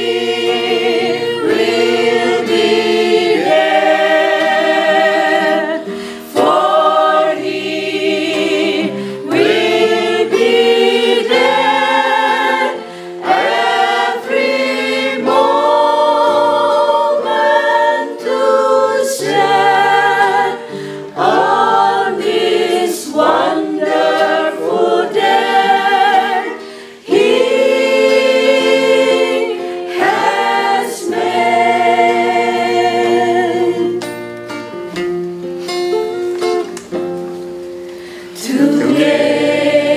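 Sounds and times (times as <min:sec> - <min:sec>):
choir singing gospel: 0:00.0 - 0:34.3, 0:37.9 - 0:39.9
acoustic guitar: 0:00.0 - 0:39.9.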